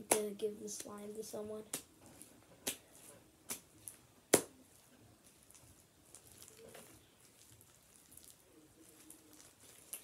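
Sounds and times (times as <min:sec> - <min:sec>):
slime crackling as kneaded: 0:00.0 - 0:10.0.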